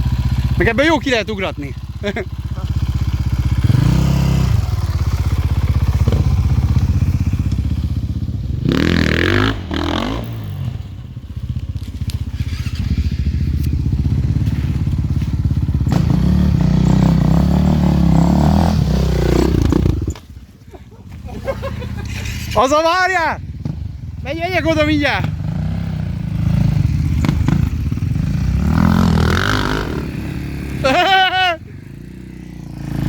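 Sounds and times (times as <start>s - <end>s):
dirt bike engine revving: 0.0s - 11.1s, 12.3s - 20.3s, 23.6s - 33.0s.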